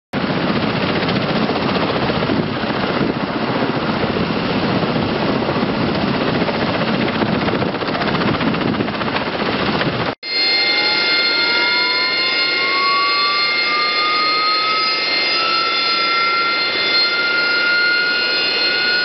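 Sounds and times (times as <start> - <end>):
aircraft engines running: 0.2 - 19.0.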